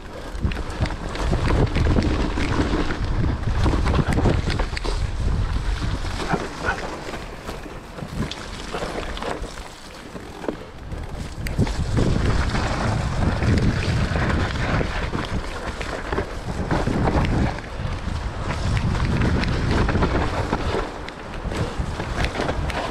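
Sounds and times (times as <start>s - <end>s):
wind buffeting microphone: 0.0s - 9.6s, 10.4s - 22.9s
bike rattles and knocks: 0.0s - 22.9s
bike tyre noise: 0.0s - 22.9s.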